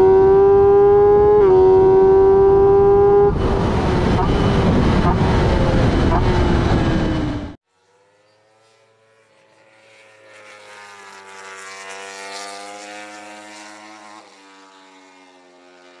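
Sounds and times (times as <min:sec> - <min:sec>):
motorcycle engine passing by: 0:00.0 - 0:16.0.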